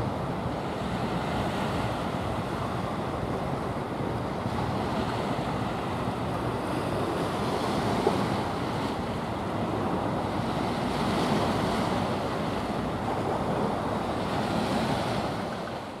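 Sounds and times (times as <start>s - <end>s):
choppy sea water rushing: 0.0s - 16.0s
wind buffeting microphone: 0.0s - 16.0s.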